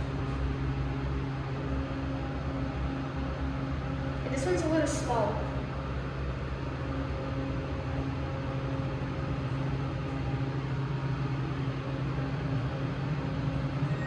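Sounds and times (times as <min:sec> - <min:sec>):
elevator machine hum: 0:00.0 - 0:14.0.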